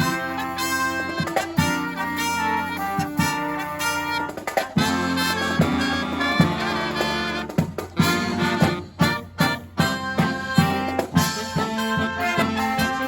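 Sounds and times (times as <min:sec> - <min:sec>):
drum beats: 0:00.0 - 0:13.0
marching brass band playing: 0:00.0 - 0:13.0.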